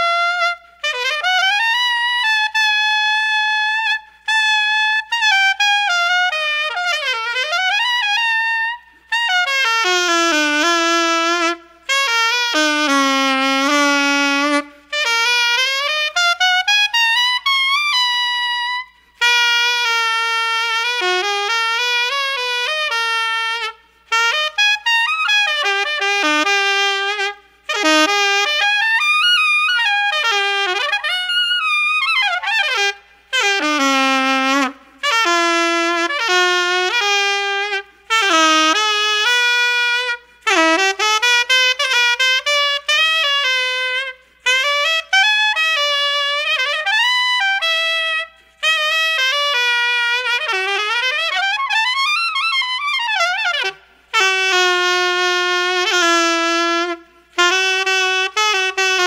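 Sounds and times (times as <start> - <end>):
solo jazz saxophone: 0.0 - 59.0.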